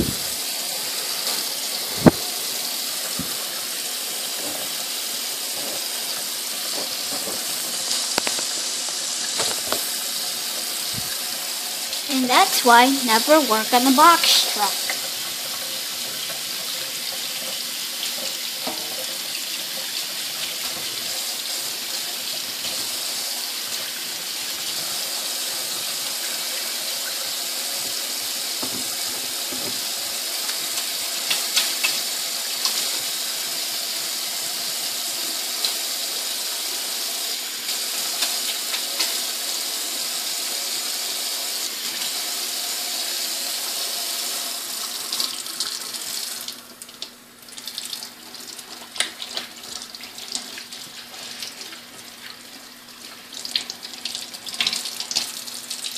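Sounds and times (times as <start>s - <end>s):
tap water running into sink: 0.0s - 55.9s.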